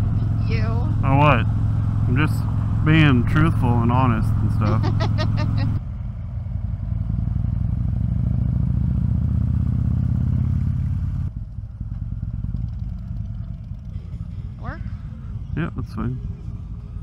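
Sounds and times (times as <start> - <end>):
motorcycle engine riding: 0.0 - 17.0.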